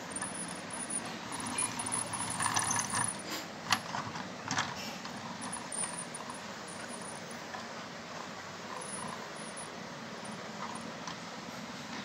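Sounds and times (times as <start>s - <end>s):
toy trains clicking on wood: 0.0s - 11.3s.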